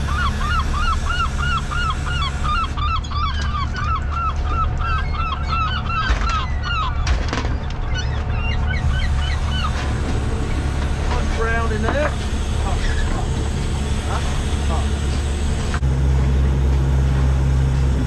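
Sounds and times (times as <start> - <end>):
gulls calling: 0.0 - 15.8
boat engine drone: 0.0 - 18.0.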